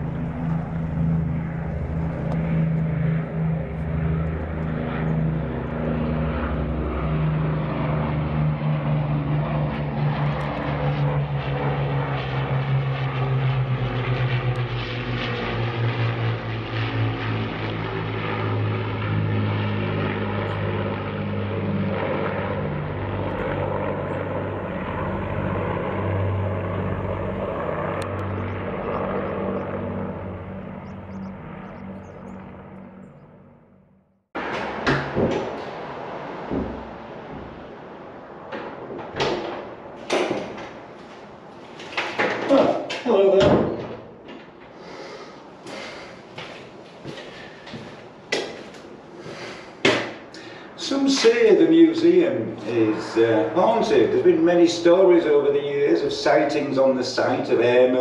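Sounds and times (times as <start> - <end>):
propeller aircraft engines: 0.0 - 58.0.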